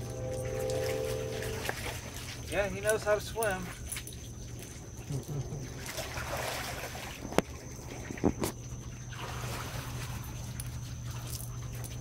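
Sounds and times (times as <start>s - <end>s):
hot tub pump hum: 0.0s - 12.0s.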